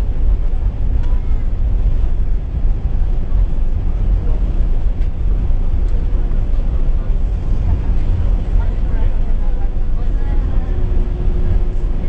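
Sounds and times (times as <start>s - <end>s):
wheels rumbling on wet tarmac: 0.0s - 12.0s.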